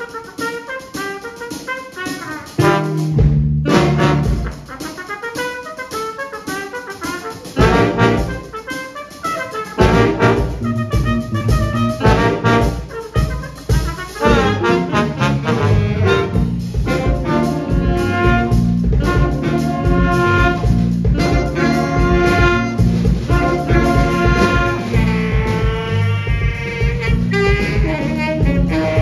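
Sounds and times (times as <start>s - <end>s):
big band horns playing jazz: 0.0s - 29.0s
drum kit steady beat: 0.0s - 29.0s.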